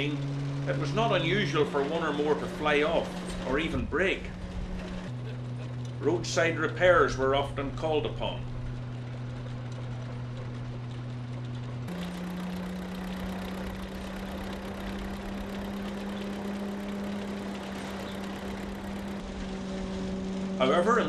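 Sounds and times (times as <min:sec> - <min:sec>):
threshing machine droning hum: 0:00.0 - 0:21.0.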